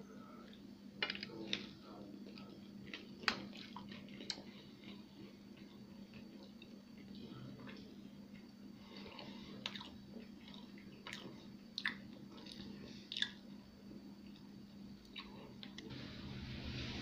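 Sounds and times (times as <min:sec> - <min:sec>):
person chewing cake: 0:00.0 - 0:15.9
faint steady hum: 0:00.0 - 0:17.0.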